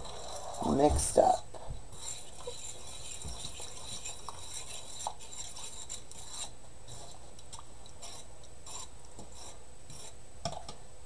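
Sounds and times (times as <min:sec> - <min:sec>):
fork scraping a skillet: 0:00.0 - 0:10.6.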